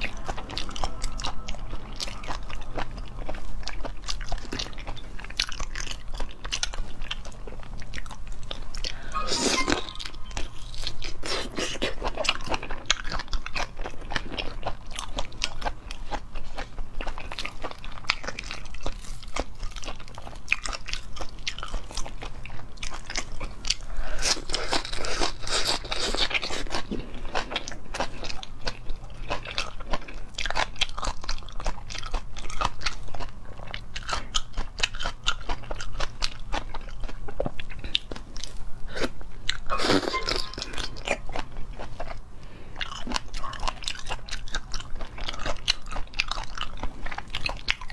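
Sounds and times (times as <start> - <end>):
crunching and chewing: 0.0 - 9.2, 10.2 - 47.9.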